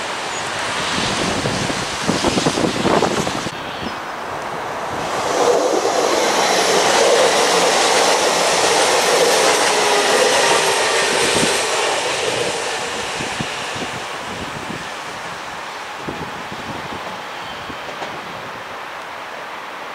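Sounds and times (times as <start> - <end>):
train passing on rails: 0.0 - 19.9.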